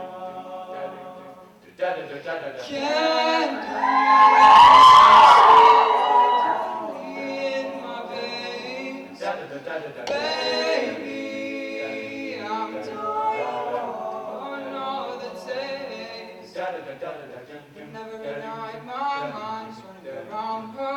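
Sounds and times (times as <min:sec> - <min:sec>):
a cappella group singing in harmony: 0:00.0 - 0:20.9.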